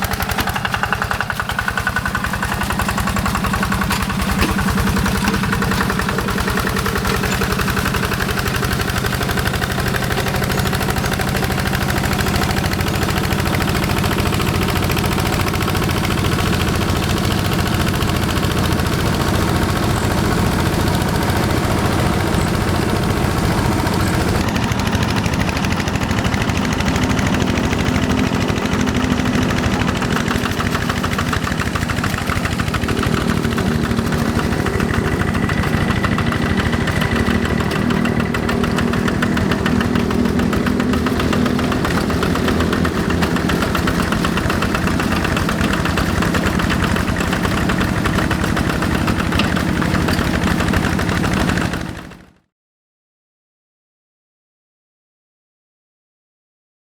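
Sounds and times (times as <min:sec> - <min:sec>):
diesel engine running: 0:00.0 - 0:52.3.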